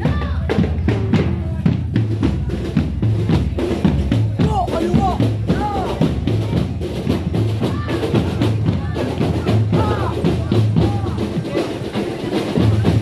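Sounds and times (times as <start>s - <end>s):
marching drums: 0.0s - 13.0s.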